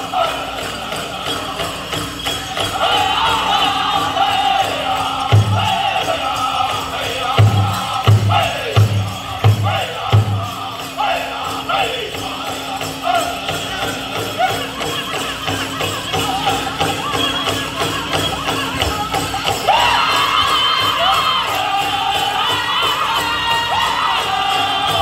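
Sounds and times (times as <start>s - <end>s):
bells jingling: 0.0s - 25.0s
group singing: 0.0s - 25.0s.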